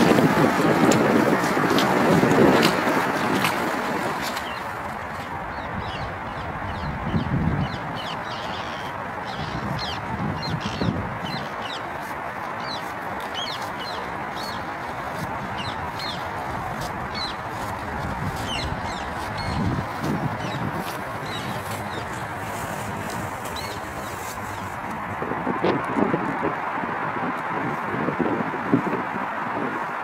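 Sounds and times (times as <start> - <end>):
birds chirping: 0.0 - 25.0
wind buffeting microphone: 0.0 - 30.0.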